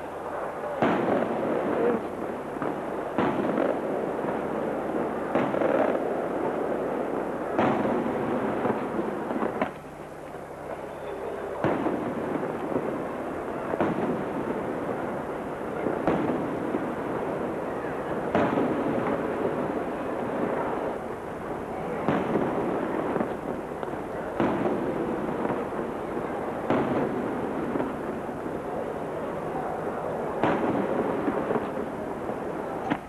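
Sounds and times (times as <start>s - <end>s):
firework crackling: 0.0s - 33.0s.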